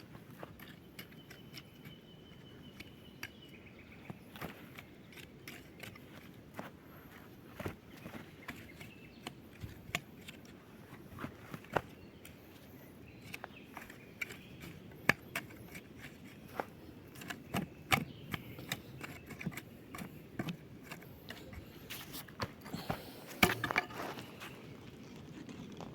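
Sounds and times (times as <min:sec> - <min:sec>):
knocks and clicks of ground work: 0:00.0 - 0:25.9
rustling of ground being cleared: 0:04.0 - 0:25.9.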